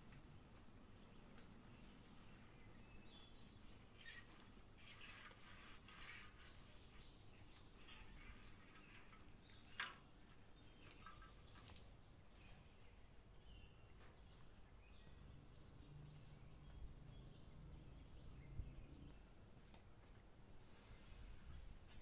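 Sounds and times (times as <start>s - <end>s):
soft bird chirps: 0.2s - 19.4s.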